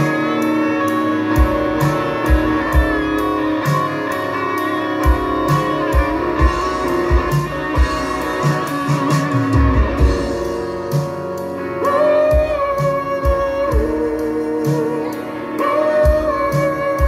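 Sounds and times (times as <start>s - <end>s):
bass guitar: 0.0s - 17.0s
cymbals: 0.0s - 17.0s
electric guitar lines: 0.0s - 17.0s.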